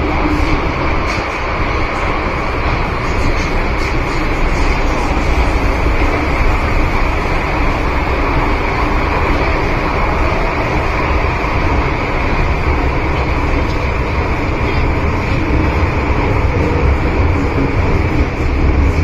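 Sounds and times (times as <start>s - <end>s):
train running in tunnel: 0.0s - 19.0s.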